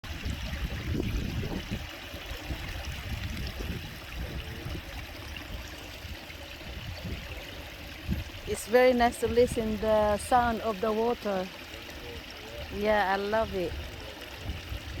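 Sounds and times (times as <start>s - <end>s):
water flowing: 0.0s - 15.0s.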